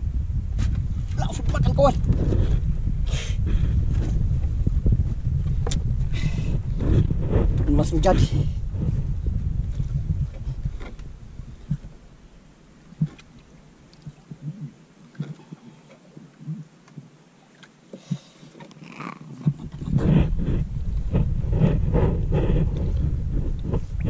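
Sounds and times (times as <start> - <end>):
wind buffeting microphone: 0.0 - 15.4, 19.3 - 24.0.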